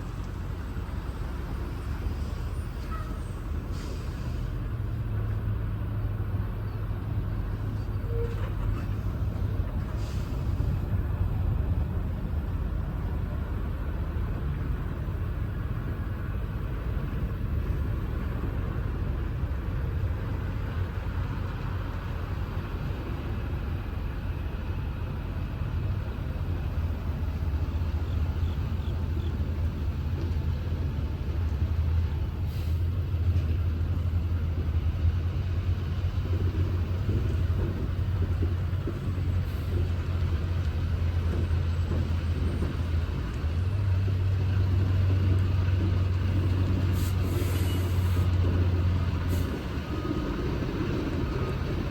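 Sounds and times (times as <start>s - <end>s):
road noise: 0.0s - 51.9s.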